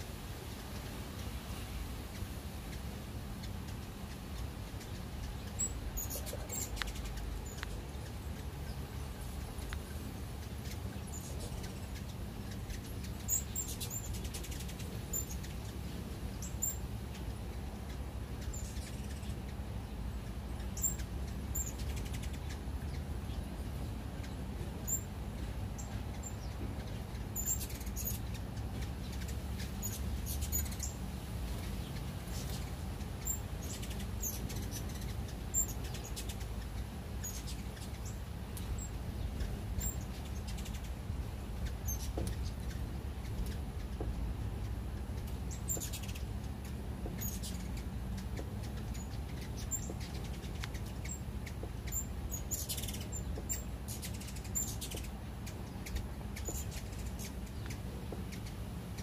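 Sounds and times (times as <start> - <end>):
hummingbird wings whirring: 0.0 - 59.0
steady low rumble: 0.0 - 59.0
hummingbird squeaky chip calls: 2.1 - 31.1, 31.7 - 59.0.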